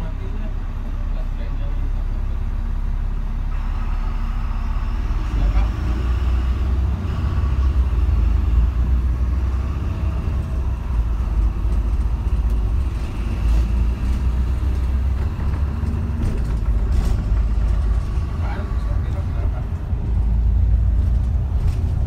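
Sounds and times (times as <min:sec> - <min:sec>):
bus engine rumble: 0:00.0 - 0:22.0
road noise: 0:00.0 - 0:22.0.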